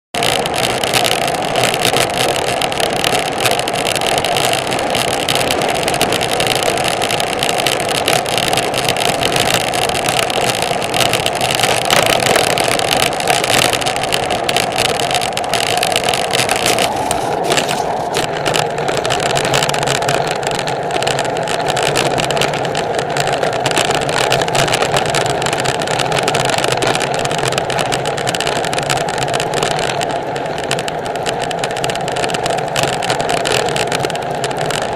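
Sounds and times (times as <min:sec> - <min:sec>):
bike tyre noise on tarmac: 0:00.2 - 0:34.9
wind rushing over microphone: 0:00.2 - 0:34.9.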